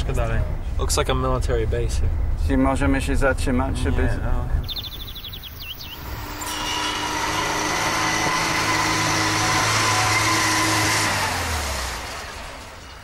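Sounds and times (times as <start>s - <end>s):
truck driving past: 1.6s - 13.0s.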